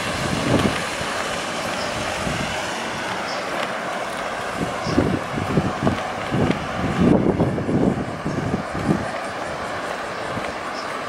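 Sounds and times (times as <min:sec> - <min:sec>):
distant road traffic: 0:00.0 - 0:11.0
wind buffeting microphone: 0:00.0 - 0:11.0.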